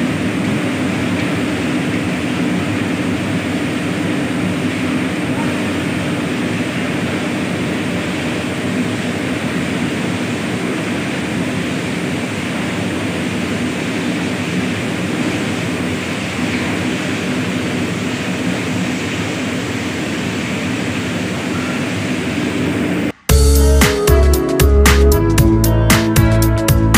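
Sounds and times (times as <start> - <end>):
furnace burner firing: 0.0 - 23.3
extraction fans running: 0.0 - 26.9.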